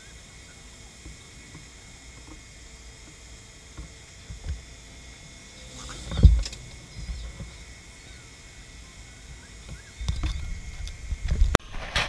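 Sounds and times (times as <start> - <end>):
faint high-pitched tones: 0.0 - 11.6.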